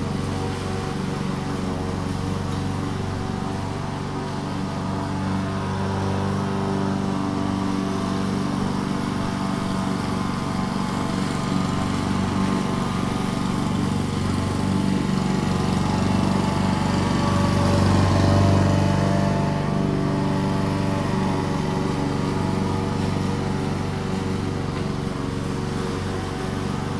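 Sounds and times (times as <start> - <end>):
lawn mower engine running: 0.0 - 26.9.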